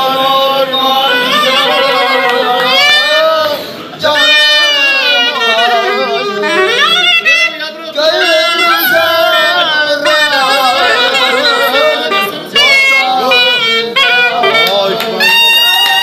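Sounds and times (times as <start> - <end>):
man singing loudly: 0.0 - 16.0
clarinet folk melody: 0.7 - 16.0.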